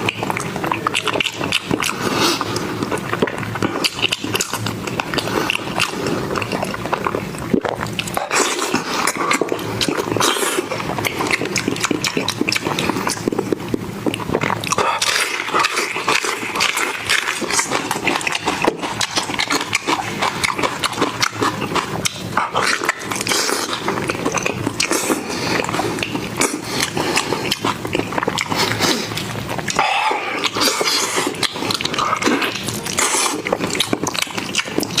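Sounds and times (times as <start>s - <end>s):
chewing and smacking food: 0.0s - 35.0s.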